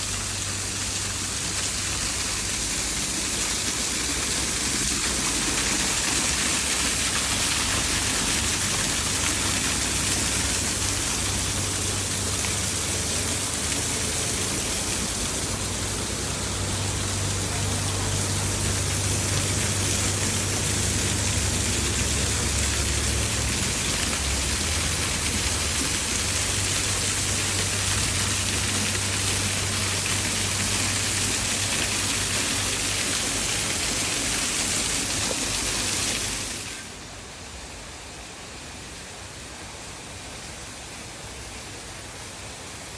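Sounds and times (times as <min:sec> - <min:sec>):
waterfall rushing: 0:00.0 - 0:39.5.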